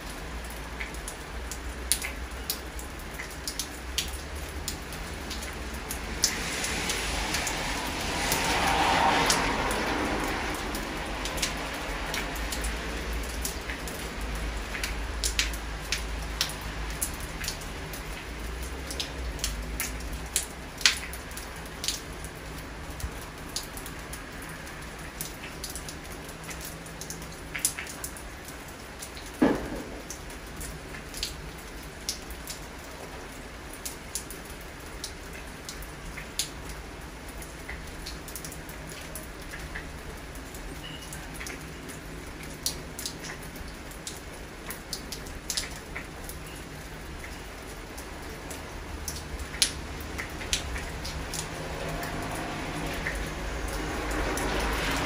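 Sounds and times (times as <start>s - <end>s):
raindrops tapping: 0.0s - 55.0s
steady rain falling: 0.0s - 55.0s.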